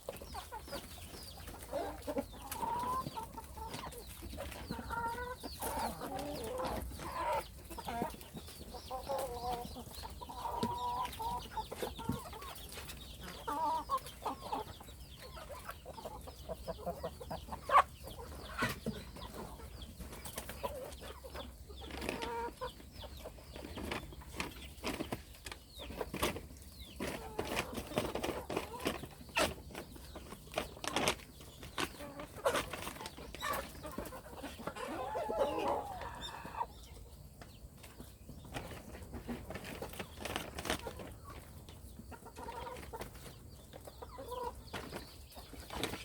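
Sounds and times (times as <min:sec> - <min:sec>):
hens clucking: 0:00.0 - 0:46.0.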